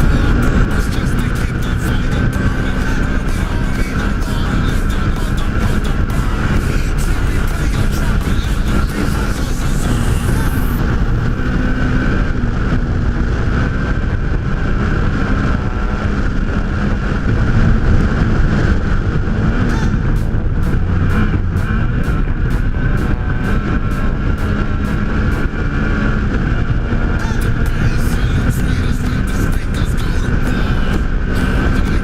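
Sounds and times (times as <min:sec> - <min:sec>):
race vehicle engine running hard: 0:00.0 - 0:32.0
rumbling road noise: 0:00.0 - 0:32.0.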